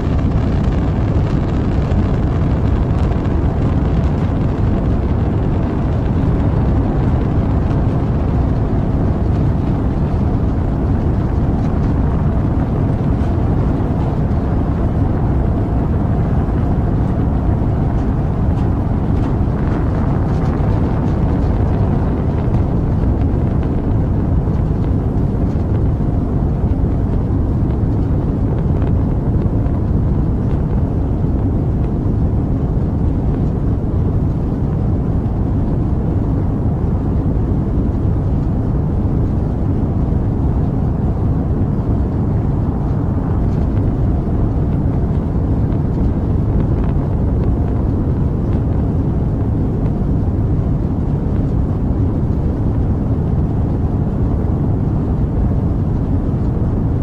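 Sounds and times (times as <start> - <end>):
rocket engine deep rumble: 0.0 - 57.0.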